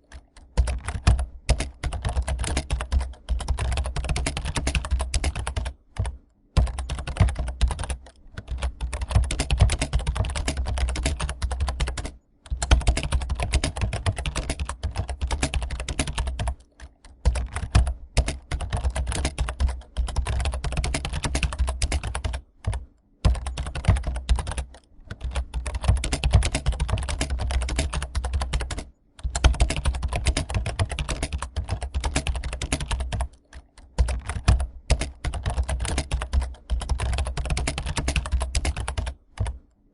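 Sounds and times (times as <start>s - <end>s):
typing on computer keyboard: 0.0s - 39.7s.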